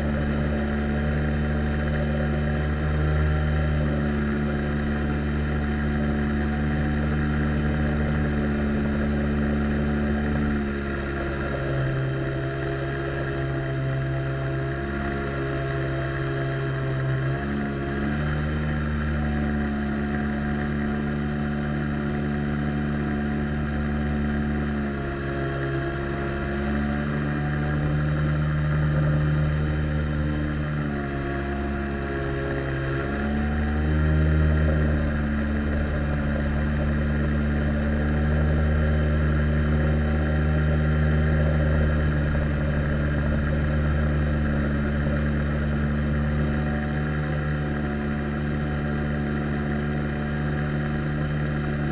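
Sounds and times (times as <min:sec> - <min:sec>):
outboard jet motor running: 0:00.0 - 0:51.9.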